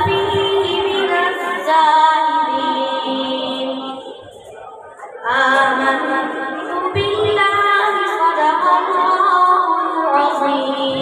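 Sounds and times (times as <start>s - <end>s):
boy reciting melodically into microphone: 0.0s - 11.0s.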